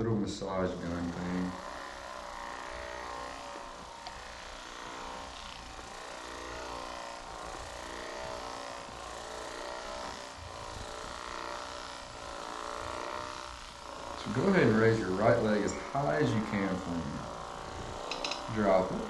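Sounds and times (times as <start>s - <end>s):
massage gun motor buzz: 0.0s - 19.0s.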